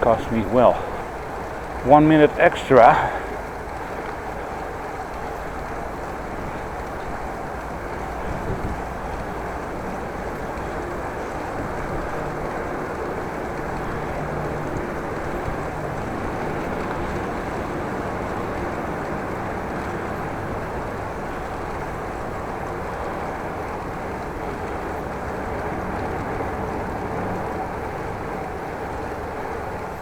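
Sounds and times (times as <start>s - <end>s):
bicycle riding noise: 0.0s - 30.0s
wind rumble on microphone: 3.8s - 29.8s.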